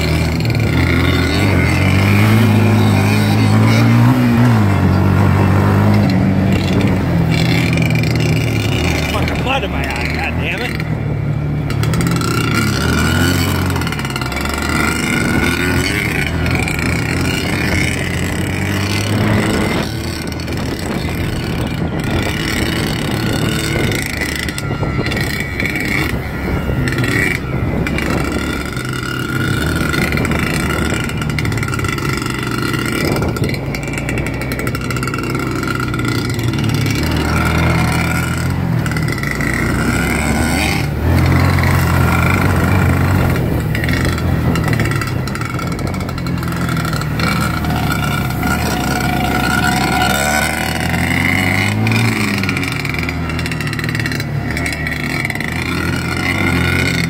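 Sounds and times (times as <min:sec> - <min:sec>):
dirt bike engine: 0:00.0 - 0:57.0
off-road vehicle engine: 0:00.0 - 0:57.0.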